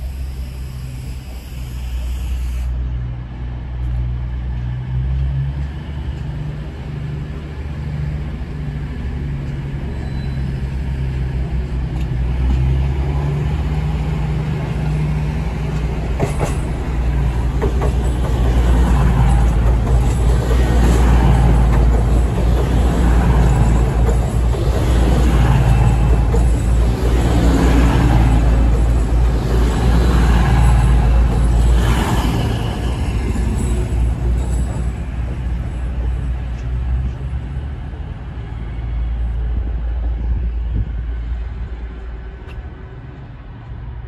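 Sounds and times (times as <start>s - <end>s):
passenger train running: 0.0s - 44.0s.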